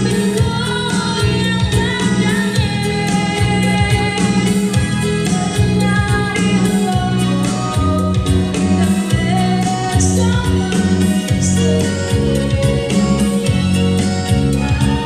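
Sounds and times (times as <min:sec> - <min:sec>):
person singing: 0:00.0 - 0:15.0
steady beat with bass line: 0:00.0 - 0:15.0.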